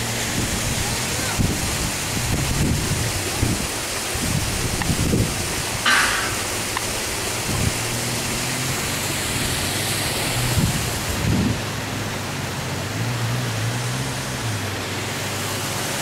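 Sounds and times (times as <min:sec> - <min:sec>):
water rushing through dam: 0:00.0 - 0:16.0.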